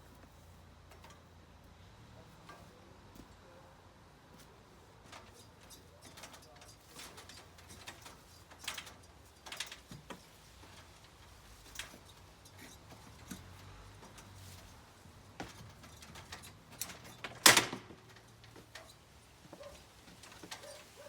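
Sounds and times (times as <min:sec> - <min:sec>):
light clicks and knocks: 0:00.1 - 0:03.6, 0:04.3 - 0:21.0.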